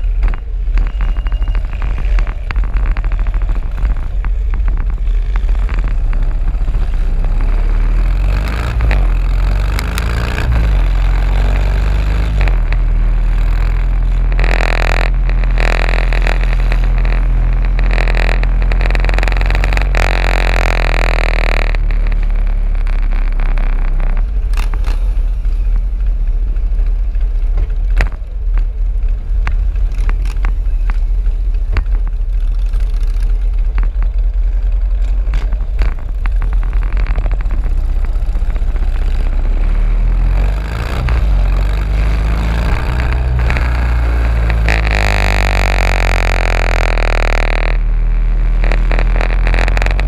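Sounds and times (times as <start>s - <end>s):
sharp clicks: 0.0s - 25.8s, 29.4s - 47.8s, 48.4s - 50.0s
wind on microphone: 0.0s - 32.6s, 33.2s - 50.0s
motorcycle engine rumble: 0.0s - 50.0s.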